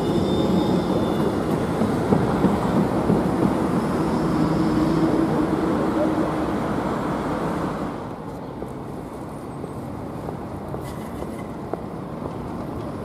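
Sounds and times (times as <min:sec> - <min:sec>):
city street traffic: 0:00.0 - 0:13.0
tram passing with motor hum: 0:00.0 - 0:13.0.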